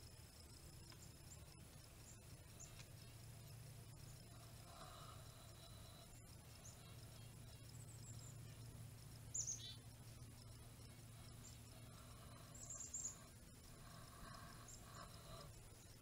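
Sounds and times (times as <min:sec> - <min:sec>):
low background rumble: 0:00.0 - 0:16.0
faint high bird chirps: 0:00.5 - 0:16.0.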